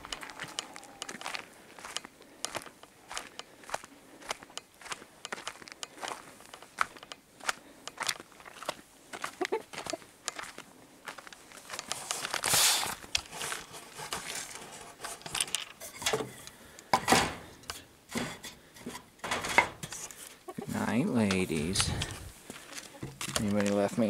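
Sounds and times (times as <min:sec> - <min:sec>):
footsteps: 0:00.0 - 0:15.6, 0:17.3 - 0:24.0
crackling rustles: 0:00.0 - 0:16.9, 0:21.2 - 0:24.0.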